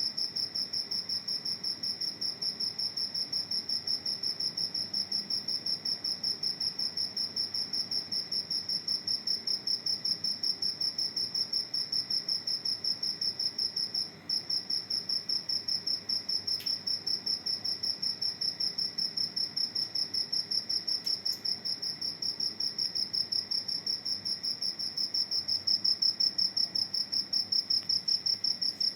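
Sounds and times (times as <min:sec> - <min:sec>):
cricket chirping: 0:00.0 - 0:28.9.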